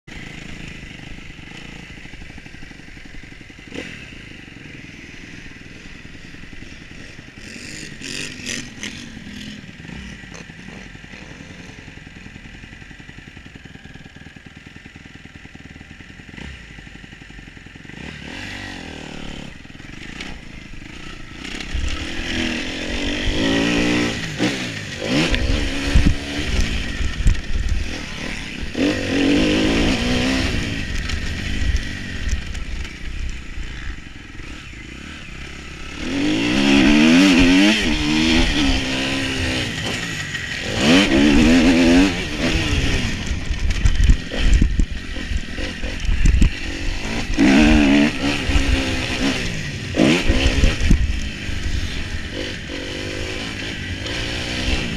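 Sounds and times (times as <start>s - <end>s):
dirt bike engine revving: 0.1s - 54.9s.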